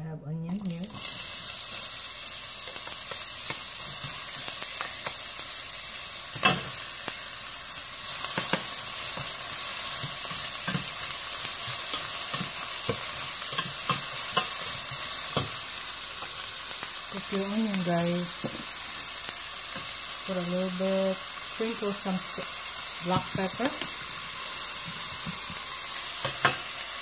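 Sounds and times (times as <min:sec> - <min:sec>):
onion sizzling in a frying pan: 0:00.5 - 0:27.0.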